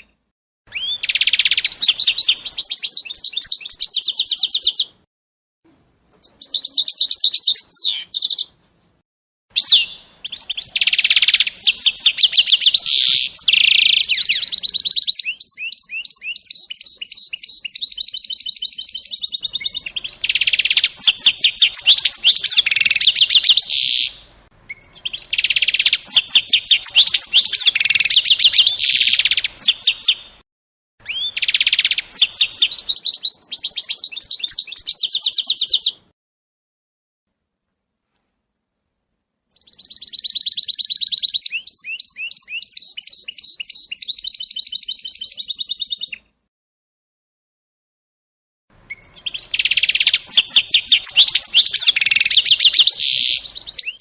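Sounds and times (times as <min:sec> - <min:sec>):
songbird singing trills: 0:00.0 - 0:05.0, 0:06.1 - 0:08.6, 0:09.6 - 0:30.4, 0:31.0 - 0:36.0, 0:39.5 - 0:46.3, 0:48.9 - 0:54.0.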